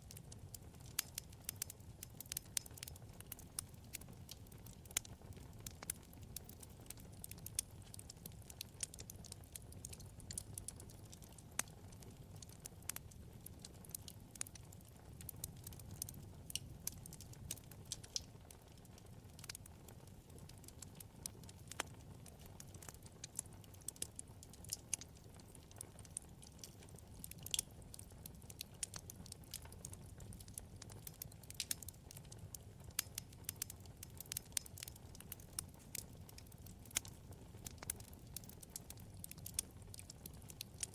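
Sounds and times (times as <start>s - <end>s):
low rumble of burning: 0.0s - 40.9s
wood fire pops and snaps: 0.0s - 40.9s.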